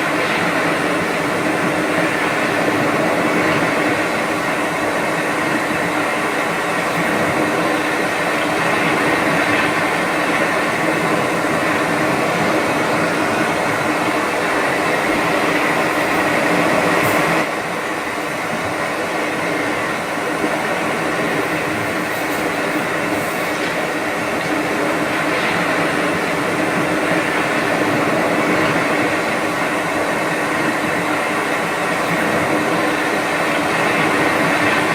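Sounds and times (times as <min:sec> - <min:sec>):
sleep machine white noise: 0:00.0 - 0:34.9.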